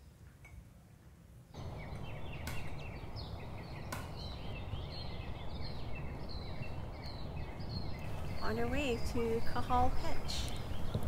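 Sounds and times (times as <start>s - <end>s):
birds chirping and calling: 1.6s - 11.0s.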